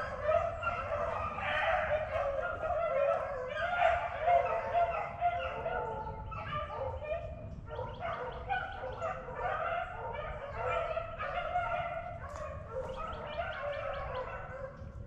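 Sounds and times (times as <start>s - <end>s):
dogs baying in chorus: 0.0s - 15.0s.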